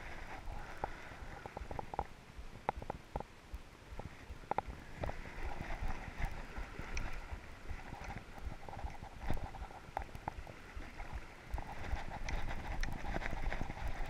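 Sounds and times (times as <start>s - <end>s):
rushing river current: 0.0s - 14.0s.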